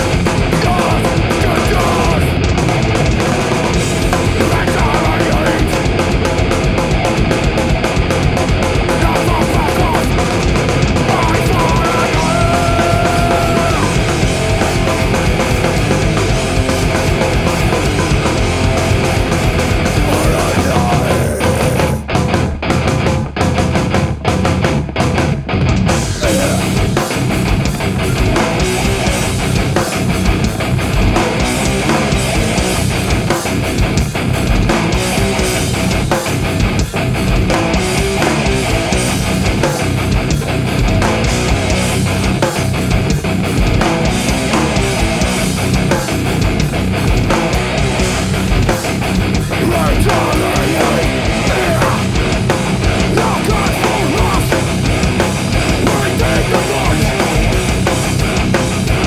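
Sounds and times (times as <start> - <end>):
bass guitar: 0.0 - 59.0
distorted electric guitar: 0.0 - 59.0
drum kit: 0.0 - 59.0.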